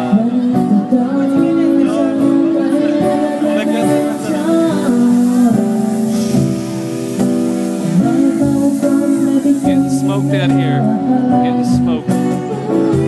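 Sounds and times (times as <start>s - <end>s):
person singing held lines: 0.0s - 6.9s, 7.7s - 13.0s
guitar and band accompaniment: 0.0s - 13.0s.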